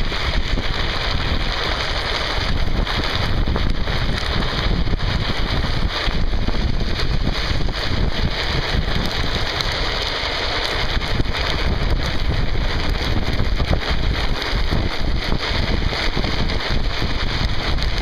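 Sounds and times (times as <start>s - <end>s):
wheels rolling on asphalt: 0.0s - 18.0s
wind buffeting microphone: 0.0s - 18.0s.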